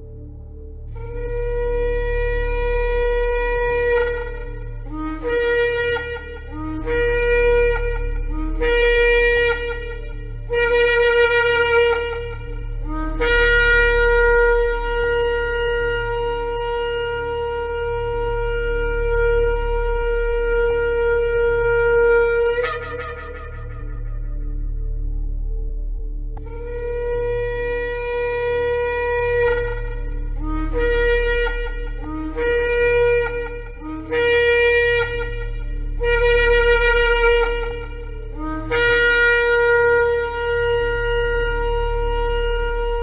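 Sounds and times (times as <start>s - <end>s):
low steady hum: 0.0s - 43.0s
ram's horn blasts: 0.1s - 25.6s, 26.4s - 43.0s.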